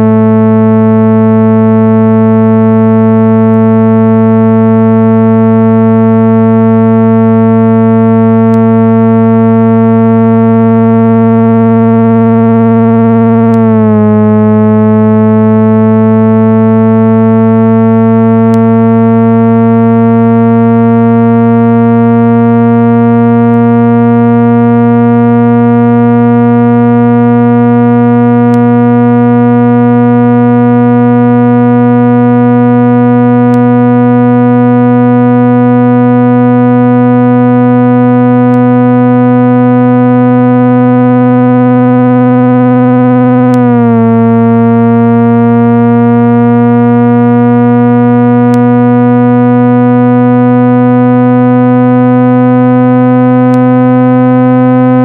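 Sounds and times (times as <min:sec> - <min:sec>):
synthesized speaker-cleaning tone: 0:00.0 - 0:55.0.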